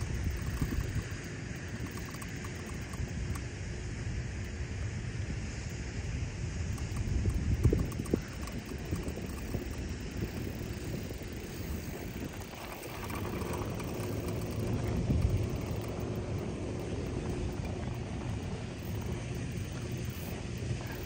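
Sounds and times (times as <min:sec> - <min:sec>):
fast river current rushing: 0:00.0 - 0:21.0
wind buffeting microphone: 0:00.0 - 0:21.0.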